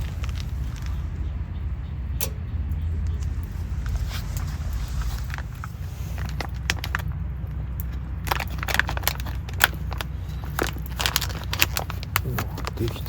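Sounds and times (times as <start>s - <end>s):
clicks and crackles: 0.0s - 1.4s, 2.2s - 13.0s
steady low hum: 0.0s - 13.0s.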